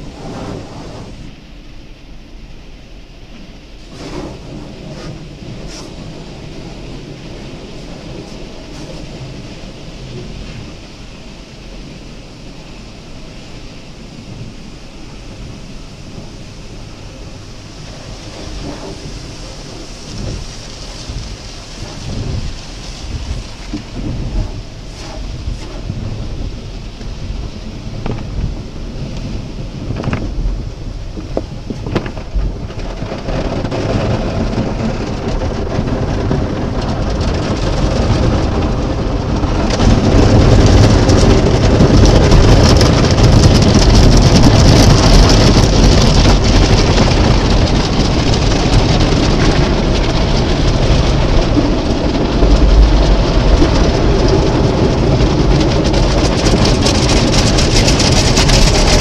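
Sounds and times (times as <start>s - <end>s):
water spraying onto car: 0.0s - 1.8s, 3.5s - 59.0s.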